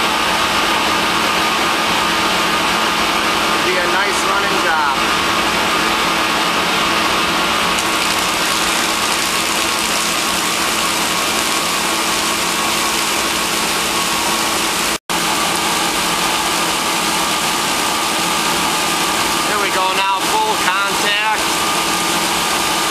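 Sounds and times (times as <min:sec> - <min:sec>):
constant machine hum: 0:00.0 - 0:22.9.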